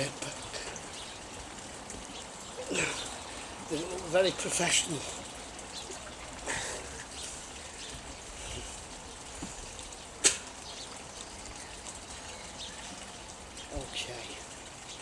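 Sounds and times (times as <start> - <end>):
water trickling and lapping: 0.0 - 15.0.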